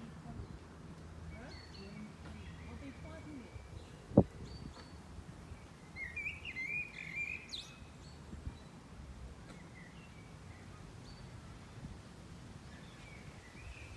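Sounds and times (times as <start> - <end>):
songbirds chirping: 0.0 - 13.9.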